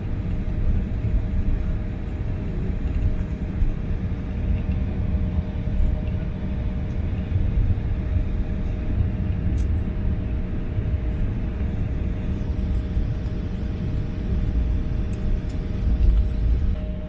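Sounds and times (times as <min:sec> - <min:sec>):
jet engine rumble and whine: 0:00.0 - 0:17.0.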